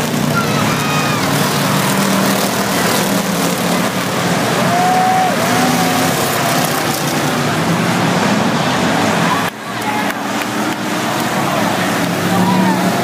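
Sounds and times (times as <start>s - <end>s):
race car engines: 0.0s - 13.0s.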